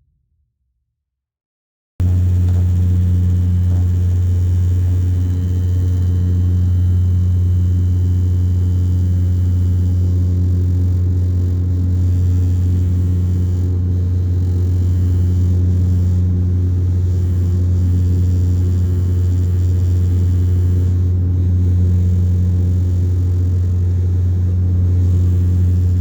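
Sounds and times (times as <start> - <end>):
airplane engine and propeller: 2.0 - 26.0.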